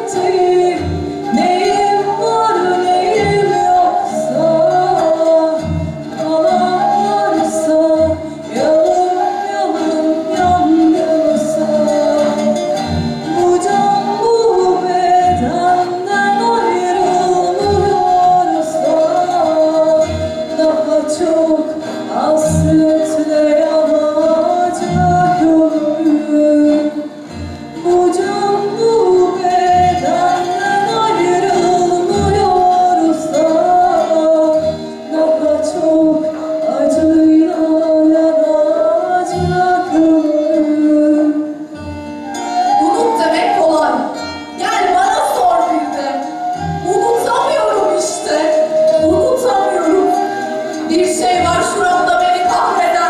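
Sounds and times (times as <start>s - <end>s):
woman singing folk song: 0.0s - 53.0s.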